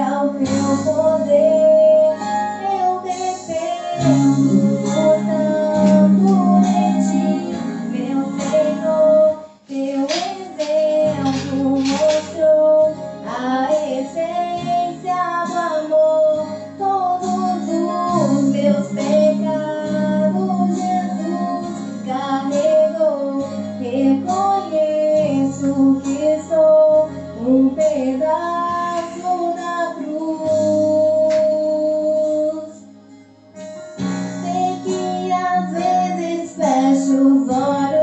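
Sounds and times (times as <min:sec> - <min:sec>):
woman singing gospel song: 0:00.0 - 0:32.8, 0:34.4 - 0:38.0
acoustic guitar: 0:00.0 - 0:38.0.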